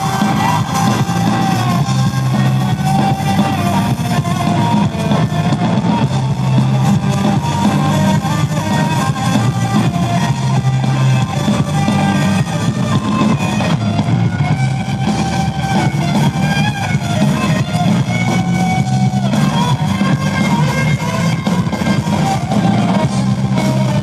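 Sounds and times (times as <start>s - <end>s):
bass guitar: 0.0s - 24.0s
drum kit: 0.0s - 24.0s
electric guitars: 0.0s - 24.0s.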